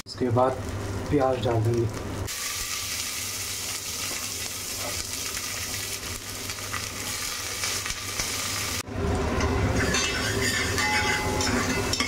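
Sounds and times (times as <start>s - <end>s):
onions sizzling in hot oil: 0.1s - 12.0s.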